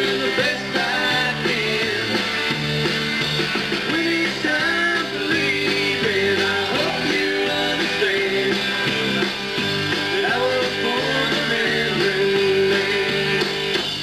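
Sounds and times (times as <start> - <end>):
acoustic guitar: 0.0 - 14.0
drum kit: 0.0 - 14.0
electric guitar: 0.0 - 14.0.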